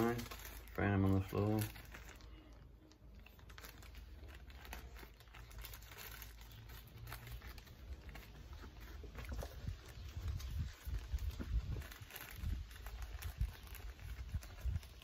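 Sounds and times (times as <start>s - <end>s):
plastic bags rustling and crinkling: 0.0s - 15.0s.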